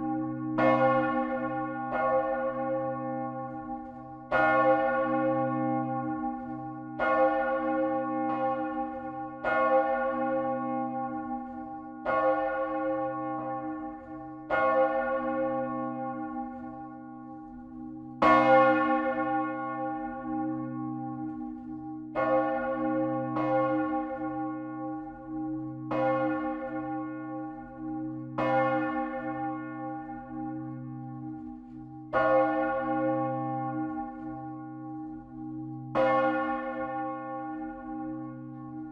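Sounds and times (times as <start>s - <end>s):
church bell ringing: 0.0s - 38.9s.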